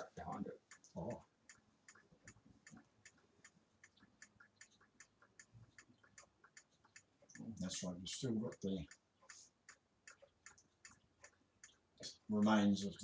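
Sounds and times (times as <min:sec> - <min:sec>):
clock ticking quickly: 0:00.0 - 0:13.0.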